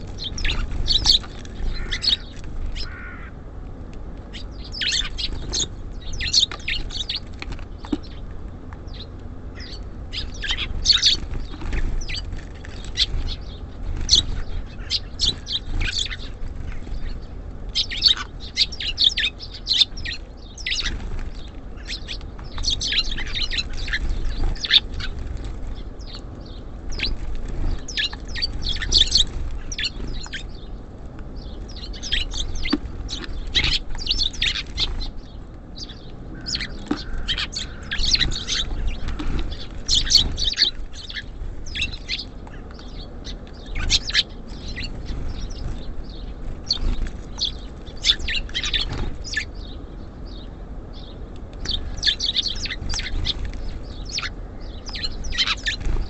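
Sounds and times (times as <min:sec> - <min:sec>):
low background rumble: 0:00.0 - 0:56.0
songbirds chirping: 0:00.0 - 0:56.0.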